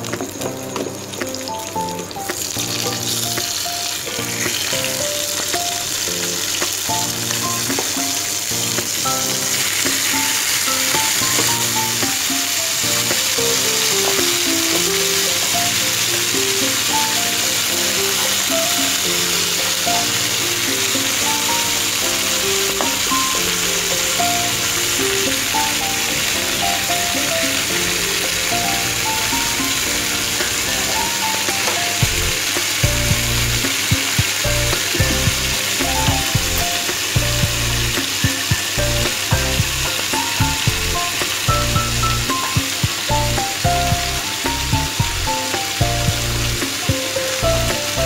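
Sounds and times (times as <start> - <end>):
background music: 0.0 - 48.0
meat sizzling in oil: 0.0 - 48.0.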